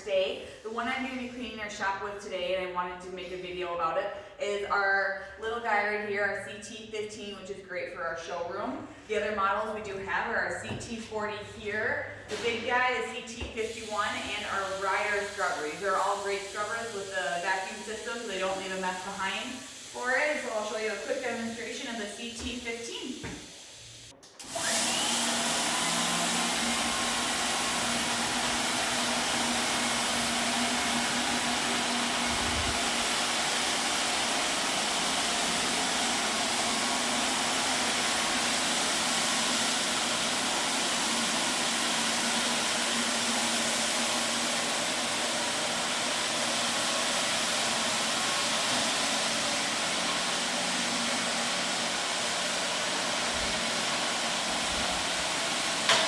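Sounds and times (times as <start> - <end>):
floor scrubber whirring: 9.5 - 56.0.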